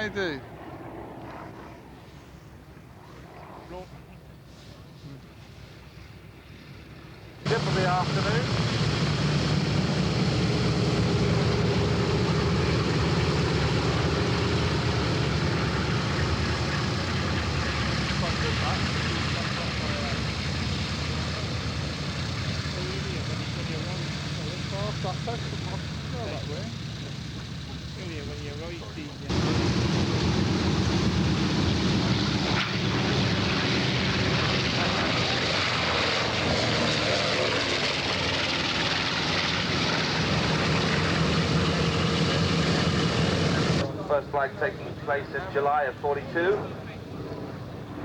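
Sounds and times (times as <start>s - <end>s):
propeller aircraft droning past: 0.0s - 4.4s, 5.4s - 48.0s.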